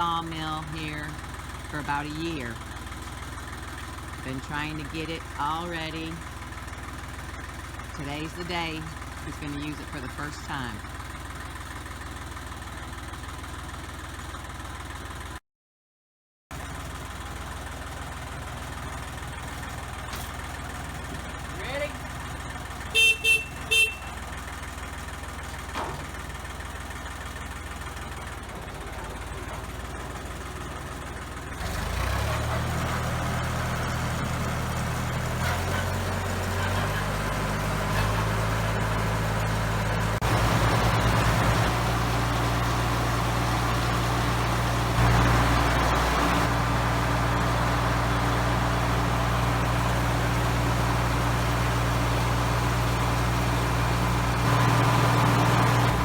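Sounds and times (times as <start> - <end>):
tractor engine running: 0.0 - 15.4, 16.5 - 56.0.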